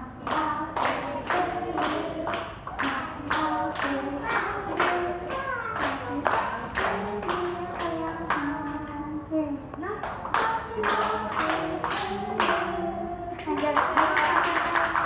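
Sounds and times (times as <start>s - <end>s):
person singing: 0.0s - 15.0s
clapping beat: 0.2s - 9.0s, 10.0s - 12.8s, 13.4s - 15.0s.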